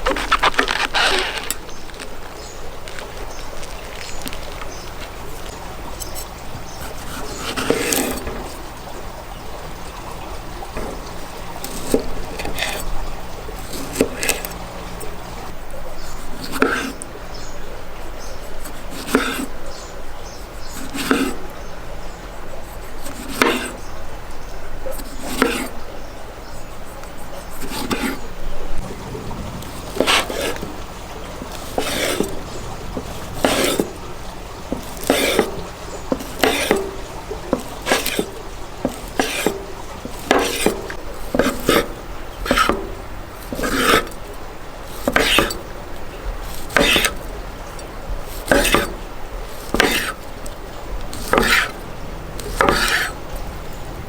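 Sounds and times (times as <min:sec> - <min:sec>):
kitchen utensil scraping in bowl: 0:00.0 - 0:54.0.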